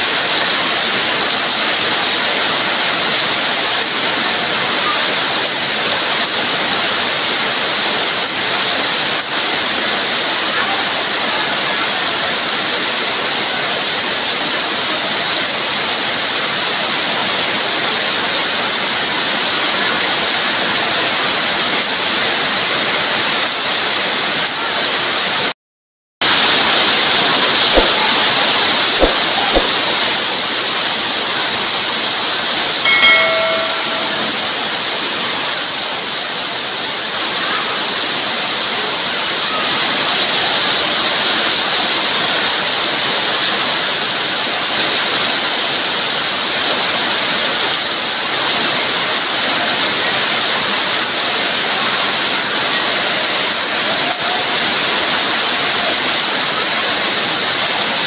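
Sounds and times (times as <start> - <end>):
heavy rain on pavement: 0.0 - 25.6, 26.2 - 58.0.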